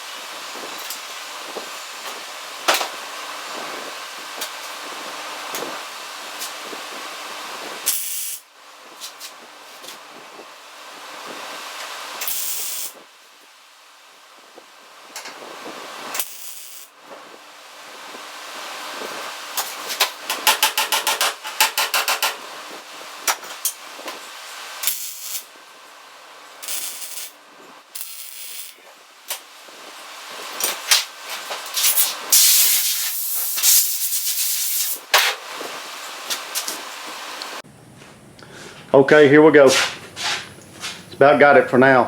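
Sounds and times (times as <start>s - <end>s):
welder crackling and hissing: 0.0s - 37.6s.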